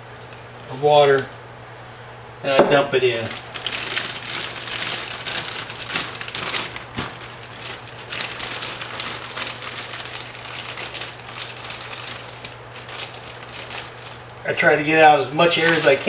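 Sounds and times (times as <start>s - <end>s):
steady low hum: 0.0s - 16.0s
plastic bag crinkling: 3.0s - 16.0s.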